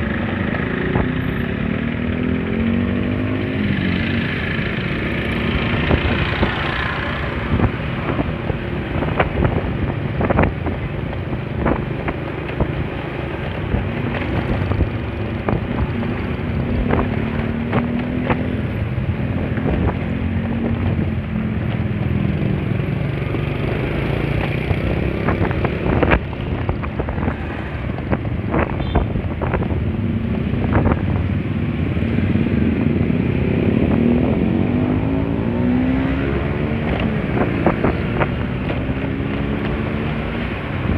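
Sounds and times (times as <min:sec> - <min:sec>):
wind buffeting microphone: 0:05.3 - 0:40.9.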